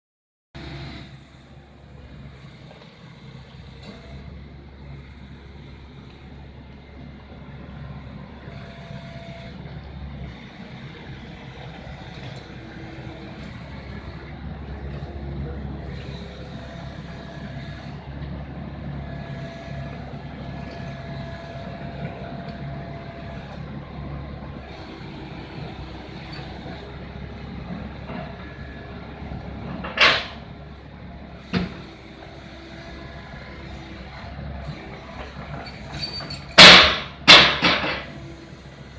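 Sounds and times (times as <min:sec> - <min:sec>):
diesel engine running: 0:00.6 - 0:38.9.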